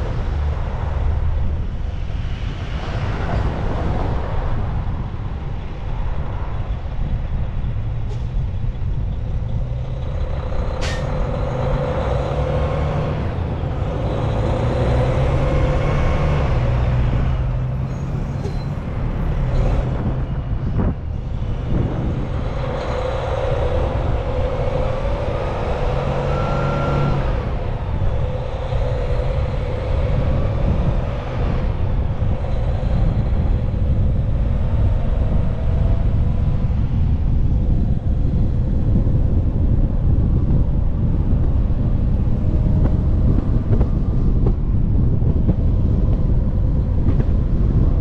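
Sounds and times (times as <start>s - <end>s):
diesel truck engine: 0.0s - 48.0s
road noise: 0.0s - 48.0s.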